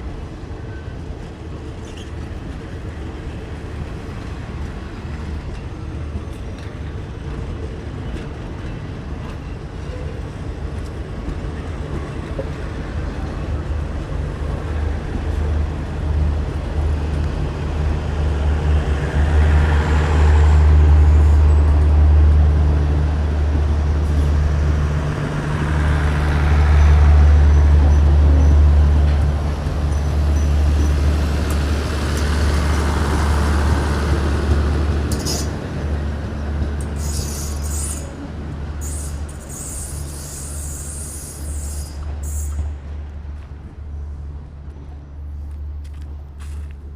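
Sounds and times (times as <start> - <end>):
diesel train engine rumbling: 0.0 - 46.9.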